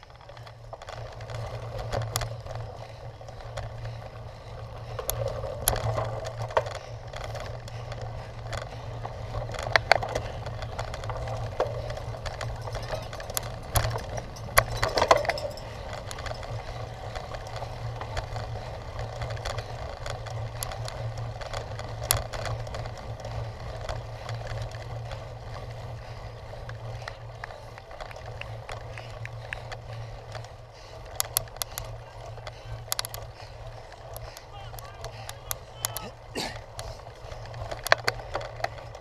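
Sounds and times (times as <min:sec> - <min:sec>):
bike frame and chain rattling: 0:00.0 - 0:39.0
wind and tyre rumble: 0:00.0 - 0:39.0.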